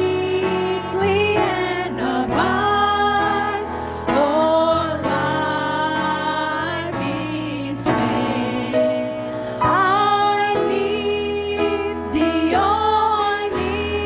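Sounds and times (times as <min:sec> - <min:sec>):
keyboard: 0:00.0 - 0:14.0
women singing in harmony: 0:00.0 - 0:14.0.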